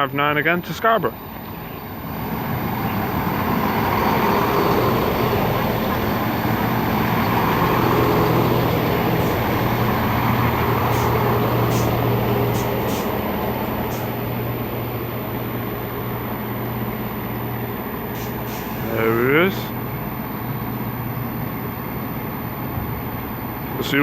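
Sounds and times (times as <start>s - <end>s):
diesel engine drone: 0.0s - 24.0s
train rumble: 0.0s - 24.0s.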